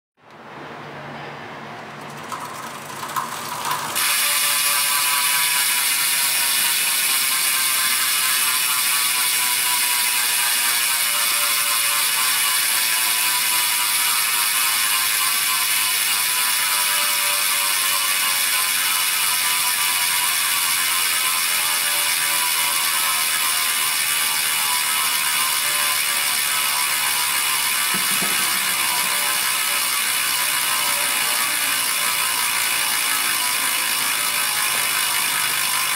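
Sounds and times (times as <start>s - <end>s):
bicycle hub ratchet buzz: 2.0s - 35.9s.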